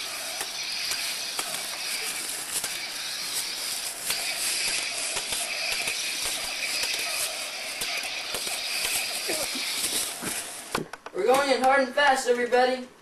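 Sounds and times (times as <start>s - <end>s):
steady hiss: 0.0s - 12.8s
plastic toy swords clashing: 0.4s - 10.1s, 11.1s - 11.8s.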